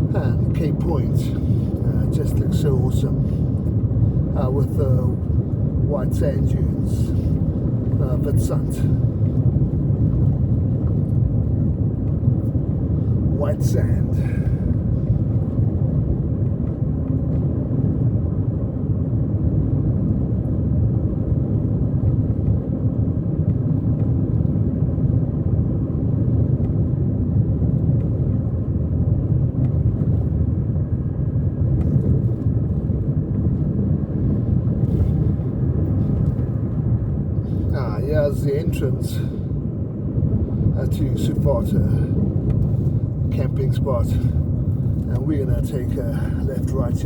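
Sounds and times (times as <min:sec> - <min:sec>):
car engine and tyre rumble: 0:00.0 - 0:47.0.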